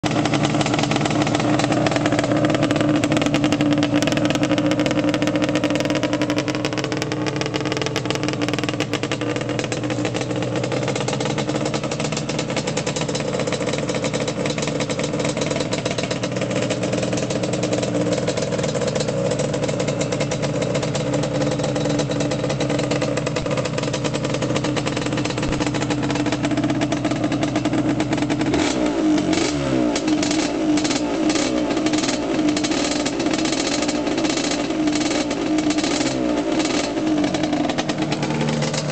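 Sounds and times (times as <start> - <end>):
two-stroke engine running: 0.0 - 38.9.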